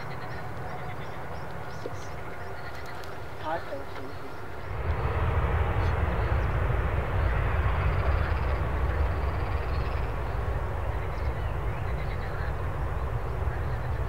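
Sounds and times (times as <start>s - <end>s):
jet engines passing: 0.0s - 14.0s.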